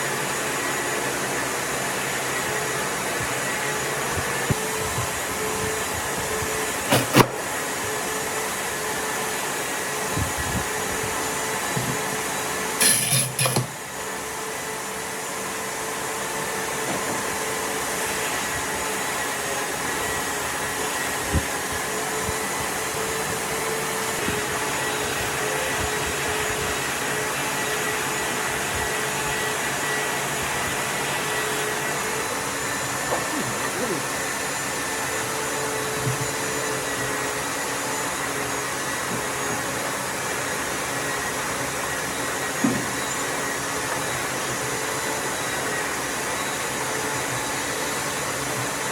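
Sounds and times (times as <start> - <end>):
power tool running: 0.0 - 48.9.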